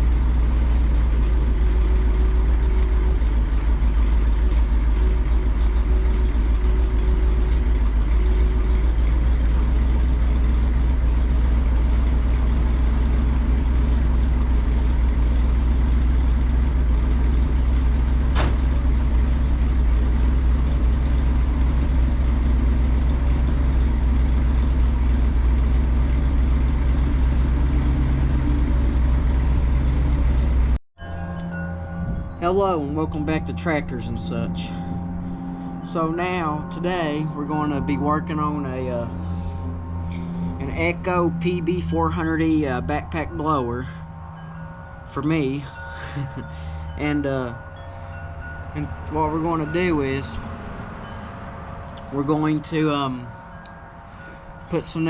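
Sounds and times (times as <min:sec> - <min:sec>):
engine idling: 0:00.0 - 0:30.8, 0:31.5 - 0:55.0.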